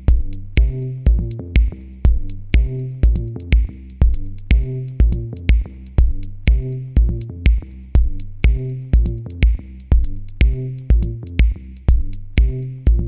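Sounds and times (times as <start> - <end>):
electronic music with drum beat: 0.0 - 13.0.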